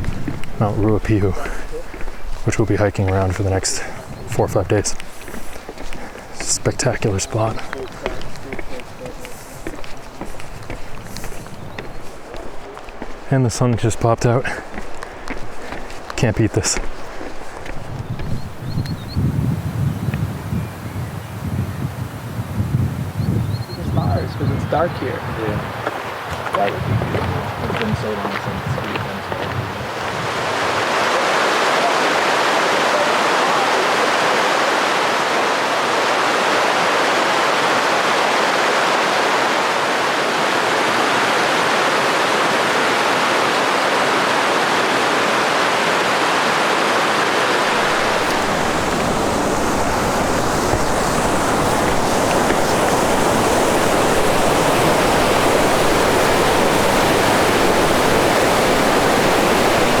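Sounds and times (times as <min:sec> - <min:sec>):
mountain stream running water: 0:00.0 - 0:20.4, 0:23.9 - 1:00.0.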